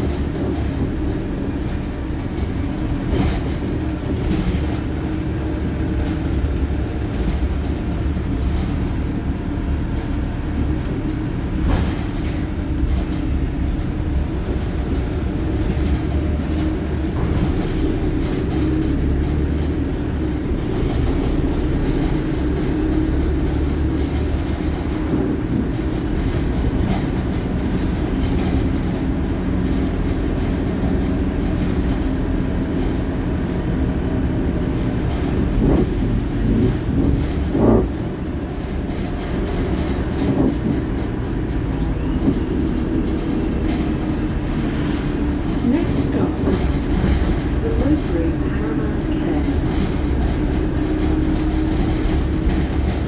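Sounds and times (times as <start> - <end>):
bus engine drone: 0.0 - 53.0
road rumble: 0.0 - 53.0.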